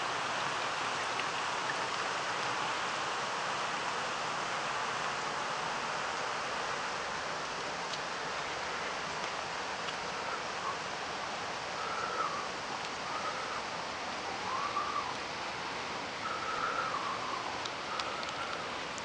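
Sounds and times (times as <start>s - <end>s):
water rushing over waterfall: 0.0s - 19.0s.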